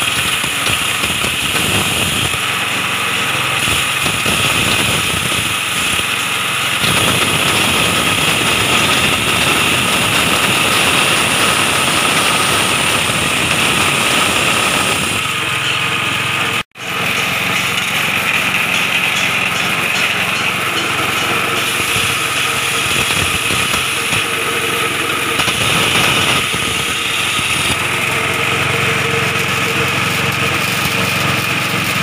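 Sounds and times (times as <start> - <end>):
grinding machine whirring: 0.0 - 32.0.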